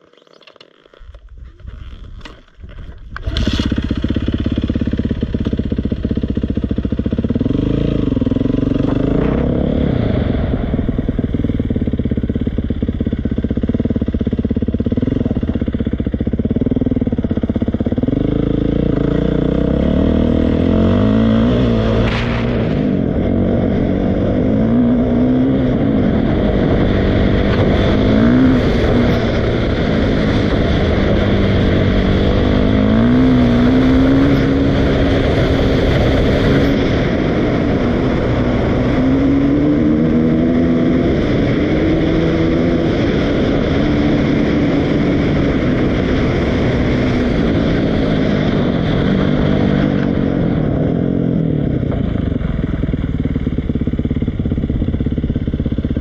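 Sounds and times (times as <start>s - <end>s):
dirt bike engine revving: 3.2s - 51.5s.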